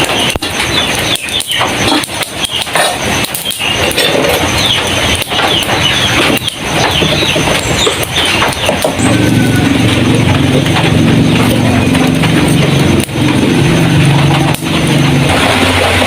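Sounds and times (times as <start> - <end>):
birds chirping: 0.0 - 15.4
rain on a tin roof: 0.0 - 16.0.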